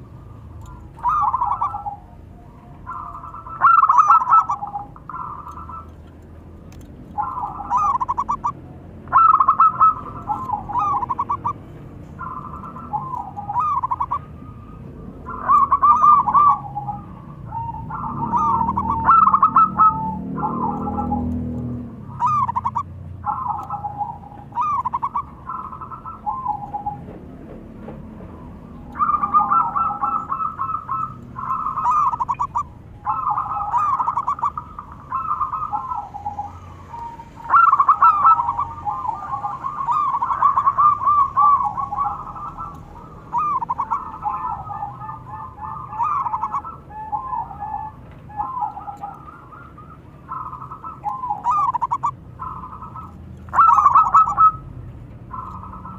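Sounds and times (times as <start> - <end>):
doves cooing: 0.0 - 55.9.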